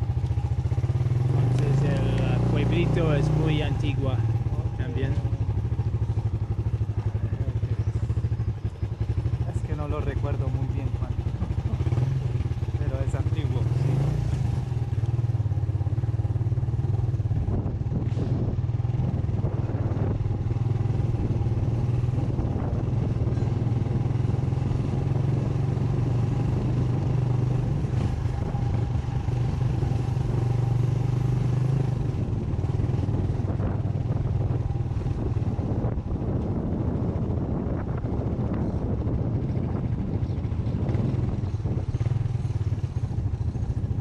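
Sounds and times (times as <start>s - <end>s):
motorcycle engine running: 0.0s - 44.0s
road and wind noise: 0.0s - 44.0s.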